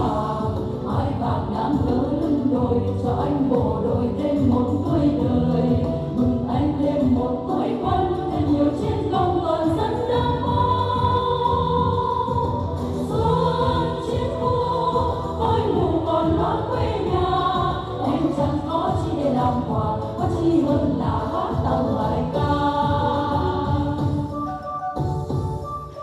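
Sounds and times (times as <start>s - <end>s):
women's vocal group singing: 0.0s - 24.4s
instrumental accompaniment: 0.0s - 26.0s.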